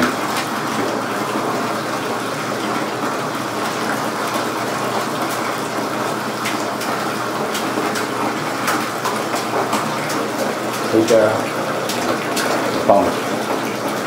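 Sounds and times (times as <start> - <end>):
whirlpool tub jets churning water: 0.0 - 14.0.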